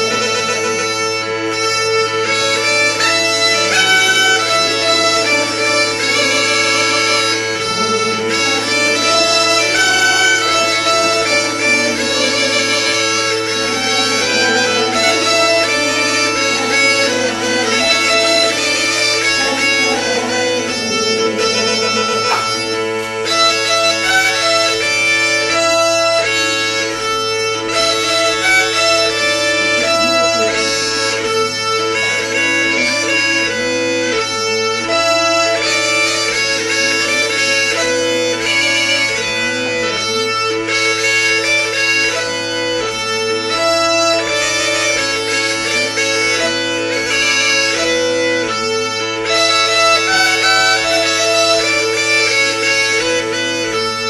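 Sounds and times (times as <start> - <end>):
bagpipes playing: 0.0 - 54.0.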